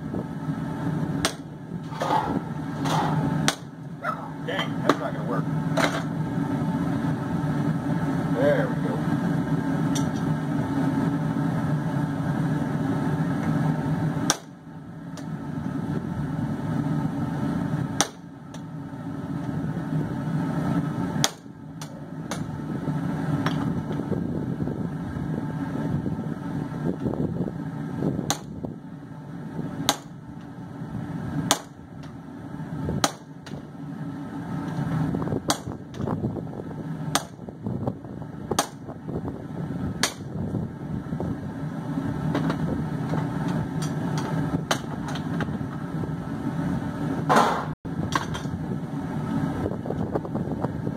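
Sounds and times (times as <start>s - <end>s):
forge drone: 0.0s - 50.9s.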